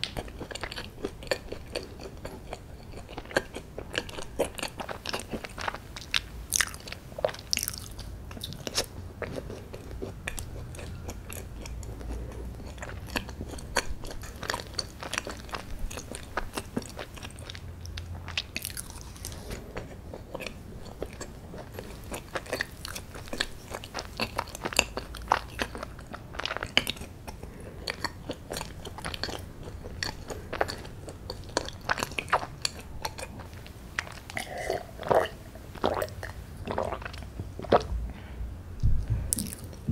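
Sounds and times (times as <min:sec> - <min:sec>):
person biting and chewing brownie: 0:00.0 - 0:17.6, 0:18.2 - 0:37.9, 0:39.3 - 0:39.9.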